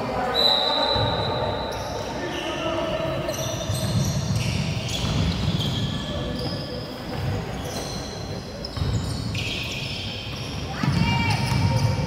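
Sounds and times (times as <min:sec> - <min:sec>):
sneaker squeaks: 0:00.2 - 0:12.0.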